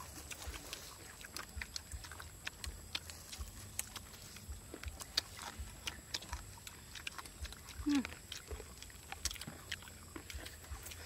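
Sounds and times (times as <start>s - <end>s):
chewing crispy chicken: 0.0s - 11.0s
wet mouth clicks: 0.0s - 11.0s.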